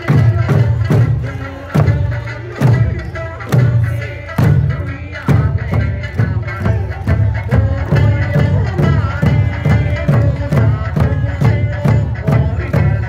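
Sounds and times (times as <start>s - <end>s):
folk song with singing: 0.0s - 13.0s.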